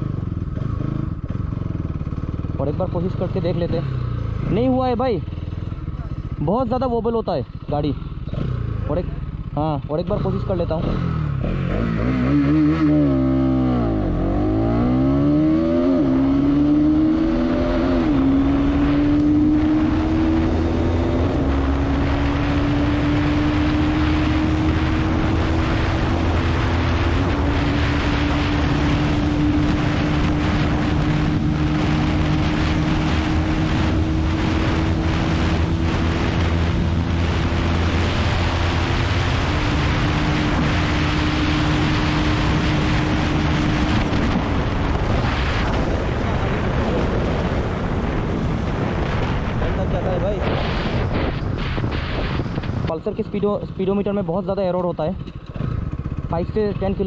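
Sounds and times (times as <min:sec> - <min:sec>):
motorcycle engine revving: 0:00.0 - 0:57.0
wind rushing over microphone: 0:03.7 - 0:57.0.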